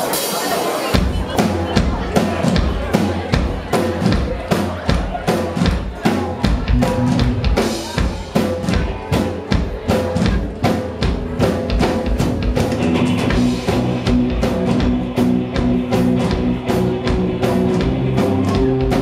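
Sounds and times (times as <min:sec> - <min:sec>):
drum kit beat: 0:00.0 - 0:19.0
rock band playing: 0:00.0 - 0:19.0.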